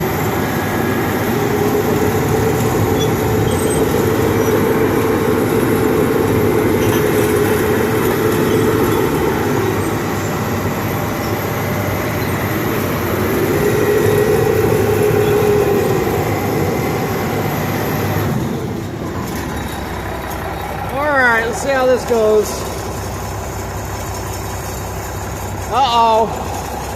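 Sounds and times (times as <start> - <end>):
bulldozer engine with whining tone: 0.0 - 26.9.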